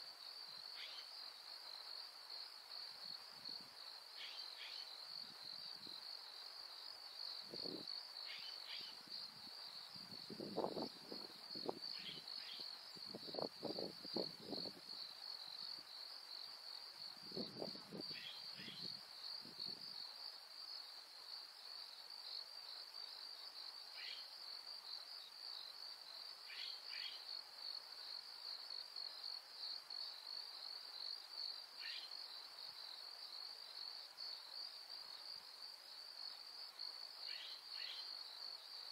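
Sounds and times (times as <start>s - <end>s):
crickets trilling: 0.2s - 38.9s
high insect chirps: 0.2s - 38.9s.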